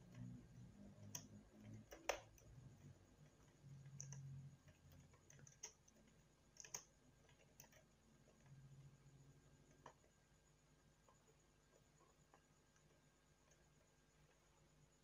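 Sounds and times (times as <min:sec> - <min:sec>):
faint keyboard typing: 0:00.0 - 0:15.0.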